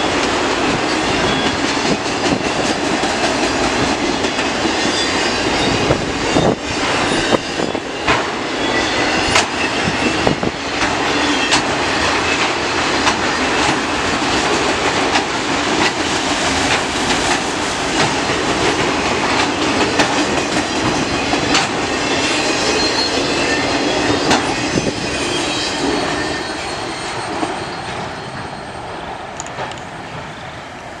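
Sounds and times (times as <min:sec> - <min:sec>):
freight train rolling past: 0:00.0 - 0:31.0
wheels clacking on rail: 0:00.0 - 0:31.0.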